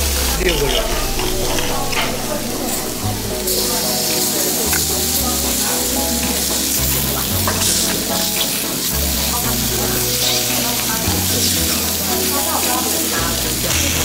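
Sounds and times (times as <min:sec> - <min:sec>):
light background music: 0:00.0 - 0:14.0
steak sizzling on hot plate: 0:00.0 - 0:14.0.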